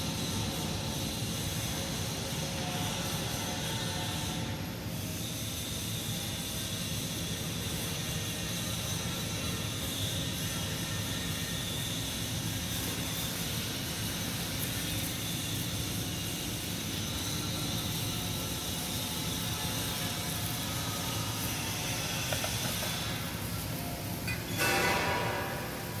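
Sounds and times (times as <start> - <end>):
continuous hum: 0.0 - 26.0
welding arc crackling and buzzing: 0.0 - 26.0.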